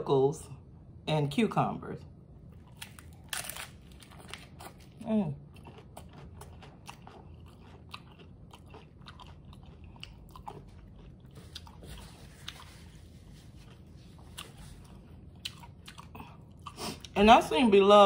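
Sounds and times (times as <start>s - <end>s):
person chewing crunchy taco: 2.4s - 17.2s.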